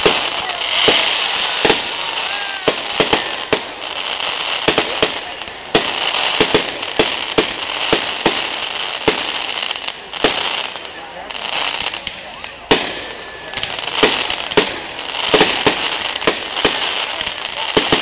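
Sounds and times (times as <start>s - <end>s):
continuous hiss: 0.0s - 18.0s
fireworks bursting with sharp bangs: 0.0s - 18.0s.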